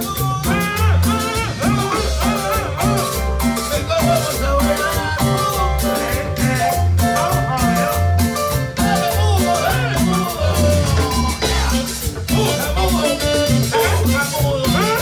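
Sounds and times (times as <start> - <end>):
alternating bass line: 0.0 - 15.0
button accordion melody: 0.0 - 15.0
drums and cymbals: 0.0 - 15.0.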